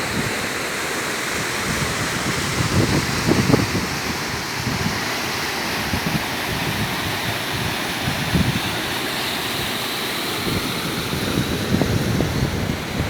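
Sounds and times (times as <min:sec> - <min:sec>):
wind buffeting microphone: 0:00.0 - 0:09.8, 0:10.4 - 0:13.0
waterfall rushing: 0:00.0 - 0:13.0.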